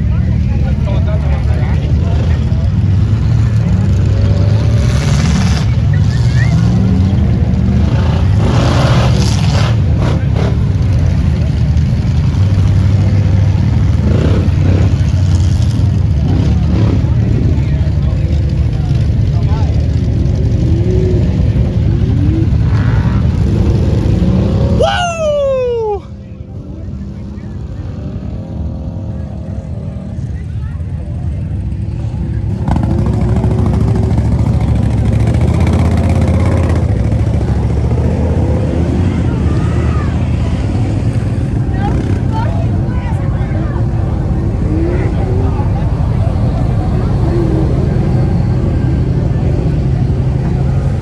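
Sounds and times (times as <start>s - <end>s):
vehicle engine running: 0.0s - 24.9s, 25.6s - 51.0s.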